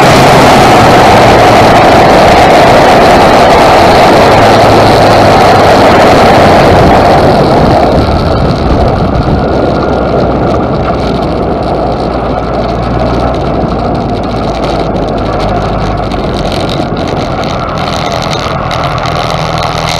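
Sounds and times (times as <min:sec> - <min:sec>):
racing car engine: 0:00.0 - 0:19.9
wind rush: 0:00.0 - 0:19.9.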